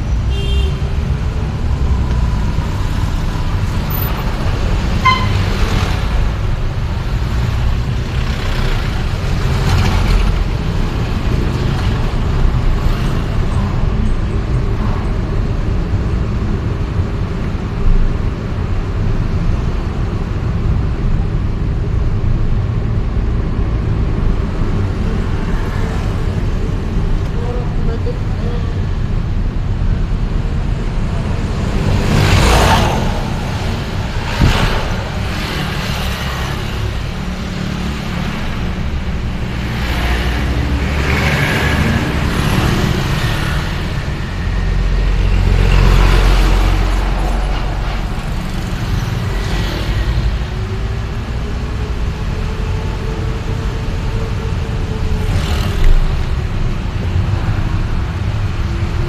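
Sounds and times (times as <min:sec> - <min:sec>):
traffic rumble: 0:00.0 - 0:59.0
vehicles passing by: 0:00.0 - 0:59.0.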